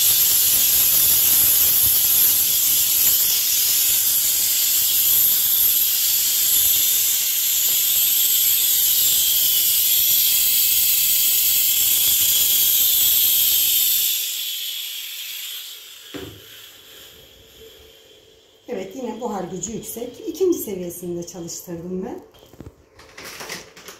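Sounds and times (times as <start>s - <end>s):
steam cleaner hissing: 0.0s - 21.6s.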